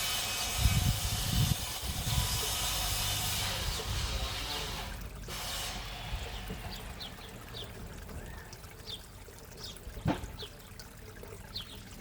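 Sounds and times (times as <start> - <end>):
water trickling into a pond: 0.0 - 12.0.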